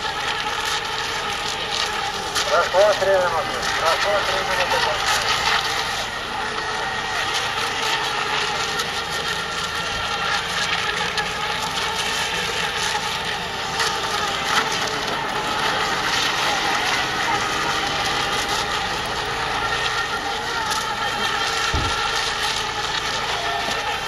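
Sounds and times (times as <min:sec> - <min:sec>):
electric boat motors whining: 0:00.0 - 0:24.0.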